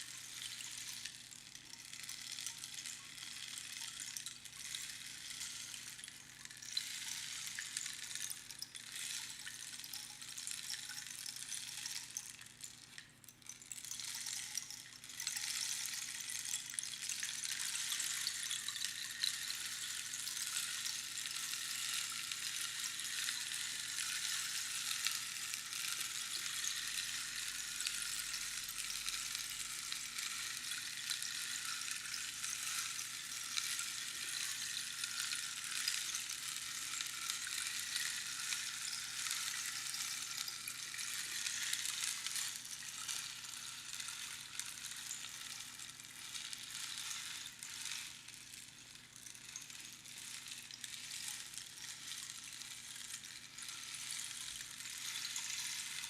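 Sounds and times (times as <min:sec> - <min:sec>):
rainstick trickling: 0:00.0 - 0:56.0.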